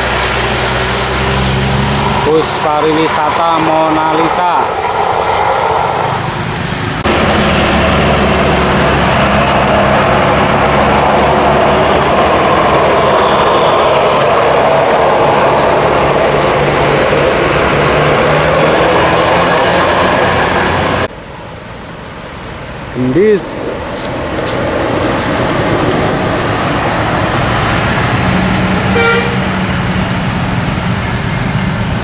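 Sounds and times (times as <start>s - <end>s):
bus diesel engine passing: 0.0s - 32.0s
tyres on road: 0.0s - 32.0s.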